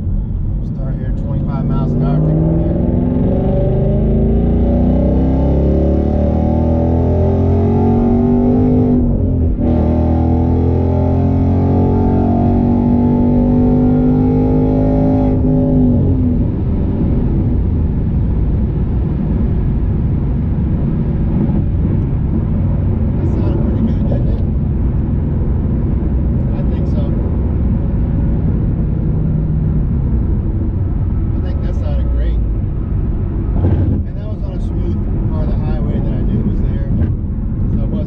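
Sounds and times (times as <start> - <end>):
car engine accelerating: 0.0 - 38.0
road noise: 0.0 - 38.0.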